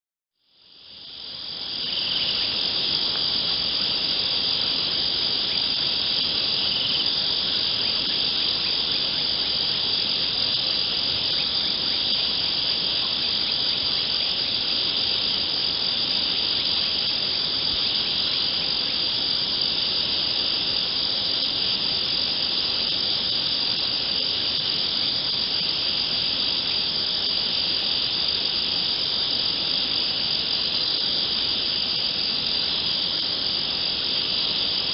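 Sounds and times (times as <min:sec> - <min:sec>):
crickets chirping: 0:00.4 - 0:34.9.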